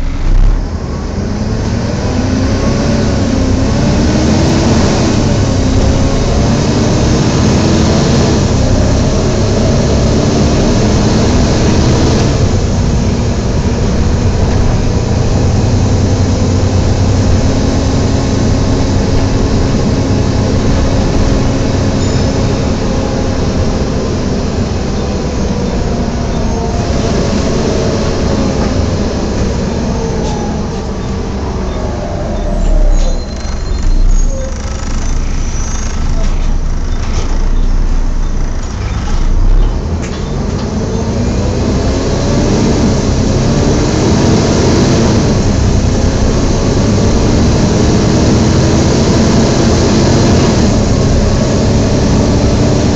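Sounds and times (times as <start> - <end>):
bus engine and transmission: 0.0 - 52.9
engine cooling fan roaring: 0.0 - 52.9.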